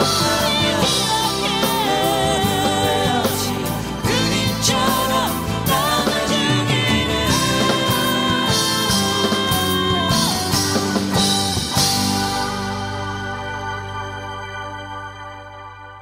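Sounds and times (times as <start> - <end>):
background music with guitar: 0.0 - 16.0.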